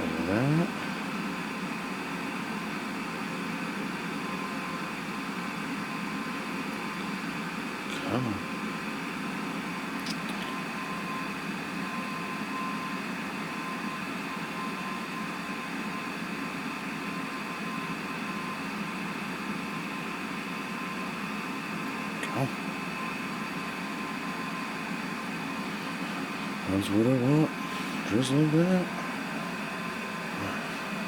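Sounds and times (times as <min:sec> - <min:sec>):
fan hum and hiss: 0:00.0 - 0:31.0.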